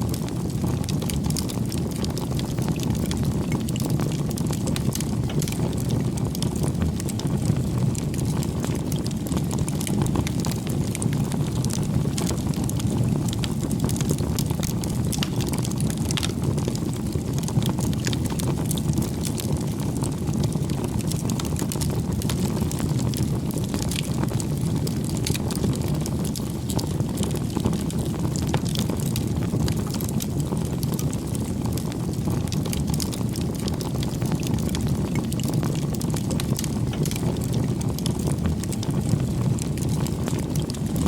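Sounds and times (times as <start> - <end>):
bonfire flames rumbling: 0.0 - 41.0
burning wood crackling and popping: 0.0 - 41.0.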